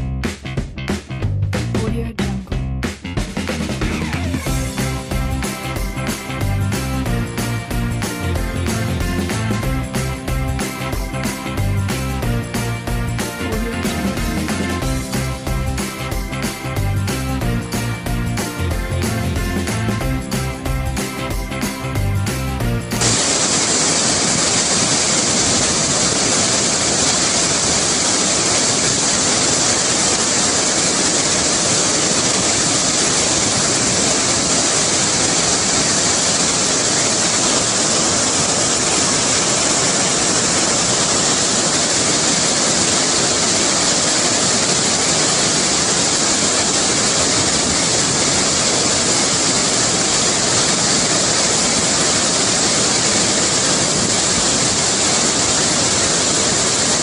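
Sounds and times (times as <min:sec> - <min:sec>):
waterfall rushing over rocks: 0:04.2 - 0:21.9, 0:22.8 - 0:57.0.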